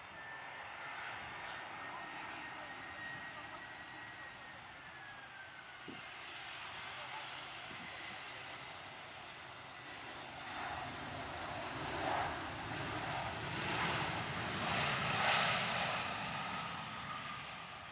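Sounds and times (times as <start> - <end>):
jet engines rushing: 0.0 - 17.9.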